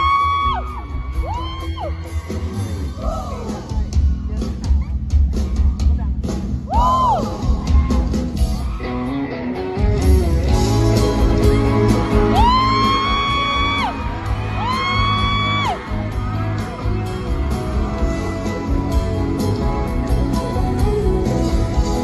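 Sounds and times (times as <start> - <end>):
live band with guitar: 0.0 - 22.0.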